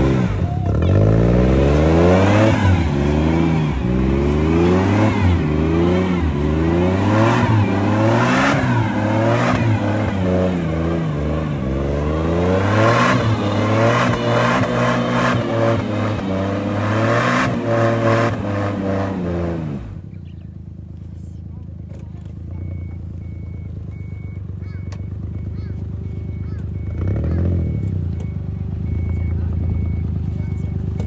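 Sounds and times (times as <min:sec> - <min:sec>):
car engine revving: 0:00.0 - 0:20.9, 0:25.3 - 0:31.0.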